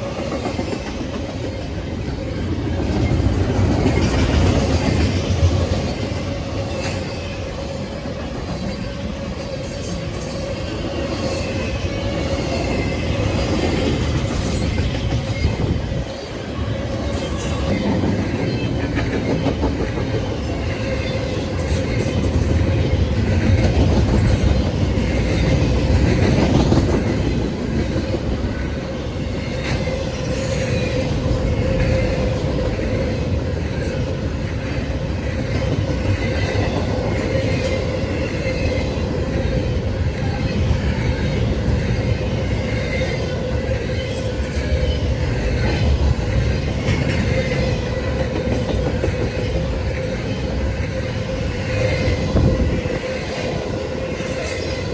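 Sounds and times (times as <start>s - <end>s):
freight train rumble: 0.0s - 54.9s
train wheels squealing: 0.0s - 54.9s.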